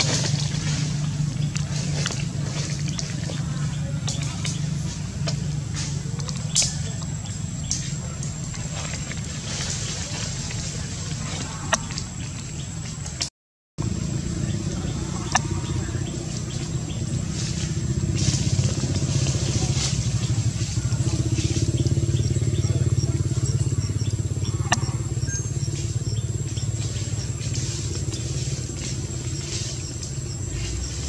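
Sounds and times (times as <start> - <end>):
engine running with low pulsing: 0.0 - 31.0.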